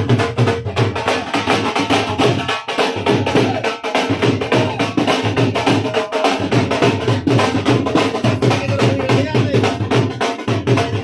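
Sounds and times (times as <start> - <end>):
dhol drum dance beat: 0.0 - 11.0
melody over drum: 0.0 - 11.0.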